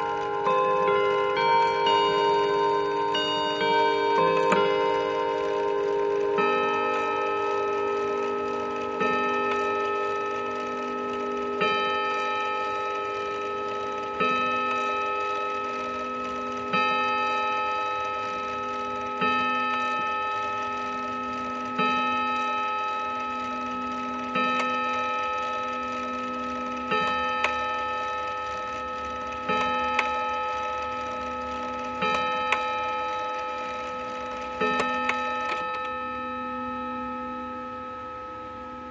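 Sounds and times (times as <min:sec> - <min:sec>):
clock movement clicks: 0:00.0 - 0:36.0
clock chime rods struck: 0:00.0 - 0:38.9.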